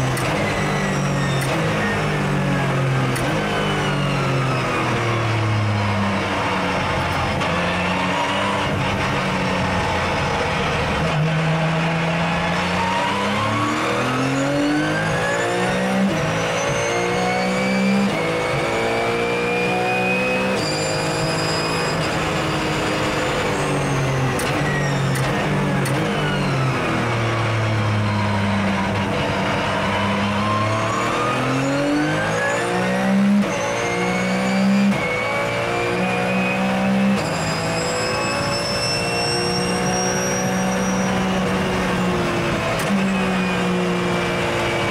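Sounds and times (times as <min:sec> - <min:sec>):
gear whine: 0:00.0 - 0:11.6, 0:20.0 - 0:44.9
race car engine revving: 0:00.0 - 0:44.9.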